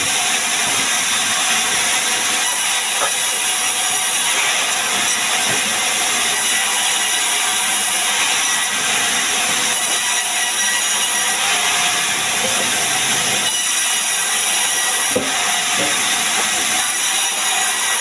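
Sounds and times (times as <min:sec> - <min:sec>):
band saw cutting wood: 0:00.0 - 0:18.0.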